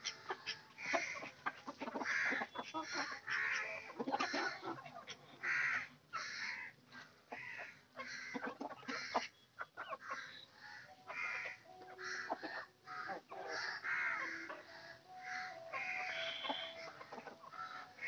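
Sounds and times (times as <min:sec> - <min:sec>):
chickens and ducks calling: 0:00.0 - 0:18.0
chickens clucking: 0:00.0 - 0:18.0.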